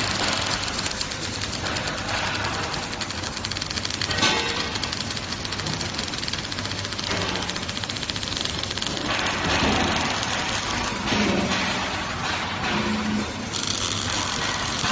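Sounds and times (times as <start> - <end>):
welding arc crackling: 0.0 - 12.5, 13.2 - 14.9.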